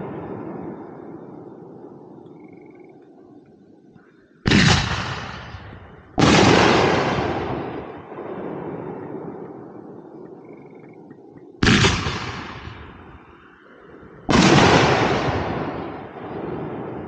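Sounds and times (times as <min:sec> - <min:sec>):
fireworks booming: 0:00.0 - 0:02.2, 0:04.4 - 0:17.0.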